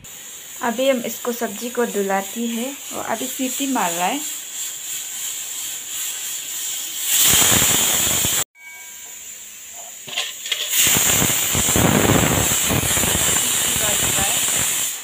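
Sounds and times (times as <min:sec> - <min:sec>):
pressure cooker whistling steam hiss: 0:00.0 - 0:15.0.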